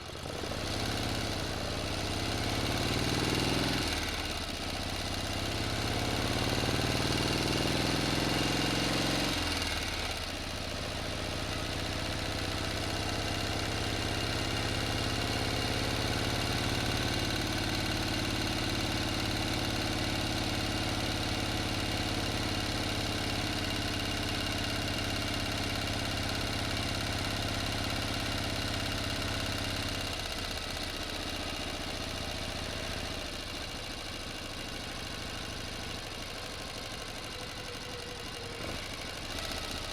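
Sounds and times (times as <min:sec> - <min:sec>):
motor engine running: 0:00.0 - 0:39.9.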